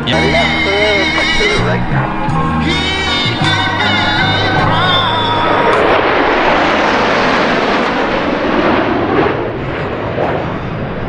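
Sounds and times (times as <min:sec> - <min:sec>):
airplane passing close: 0:00.0 - 0:11.0.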